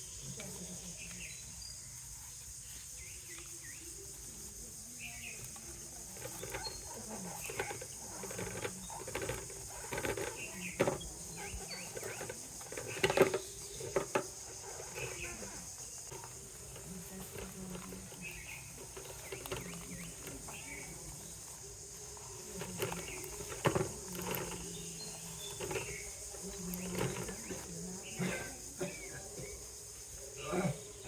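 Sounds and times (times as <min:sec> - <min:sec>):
nest material rustling and crackling: 0:00.2 - 0:27.9.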